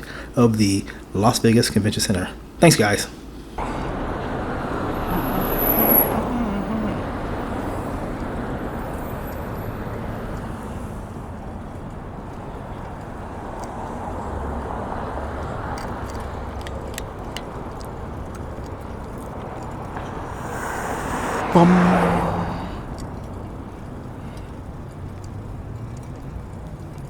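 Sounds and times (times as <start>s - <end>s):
traffic hum: 0.0s - 27.0s
vehicle passing: 3.6s - 26.9s.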